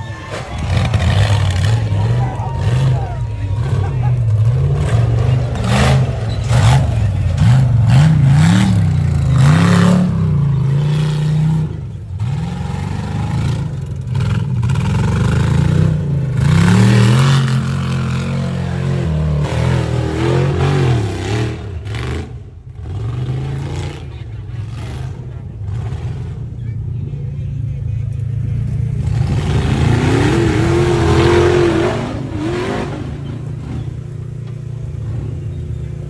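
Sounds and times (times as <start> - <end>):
utv engine revving: 0.0 - 36.0.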